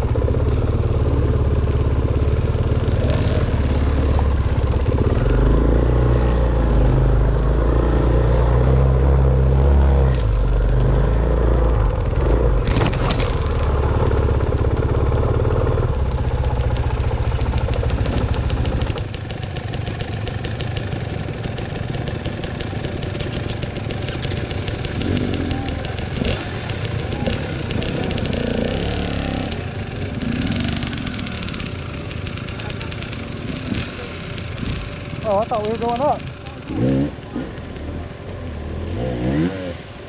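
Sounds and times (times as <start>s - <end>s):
clatter: 0.0s - 6.6s, 10.1s - 40.0s
dirt bike engine running: 0.0s - 40.0s.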